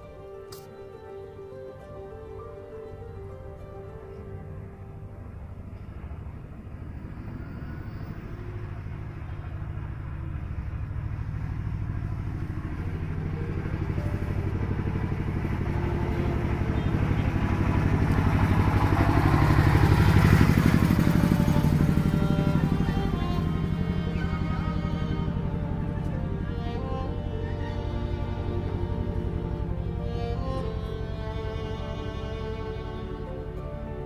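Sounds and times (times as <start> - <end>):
vehicle engine approaching: 0.0 - 34.0.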